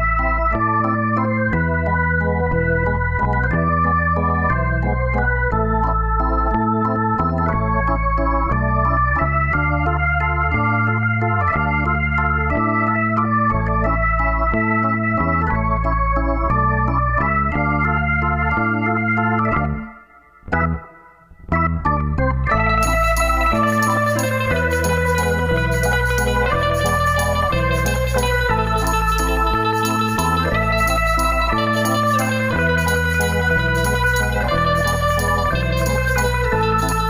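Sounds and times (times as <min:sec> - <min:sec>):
keyboard music chords: 0:00.0 - 0:37.0.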